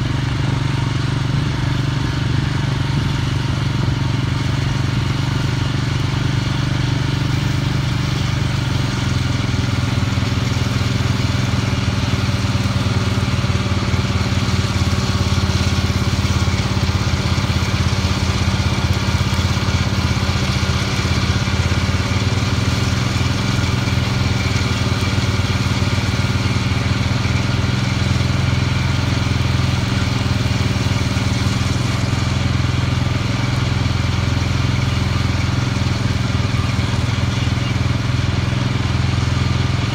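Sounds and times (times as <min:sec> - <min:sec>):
disc mower cutting hay: 0:00.0 - 0:39.9
tractor engine running under load: 0:00.0 - 0:39.9.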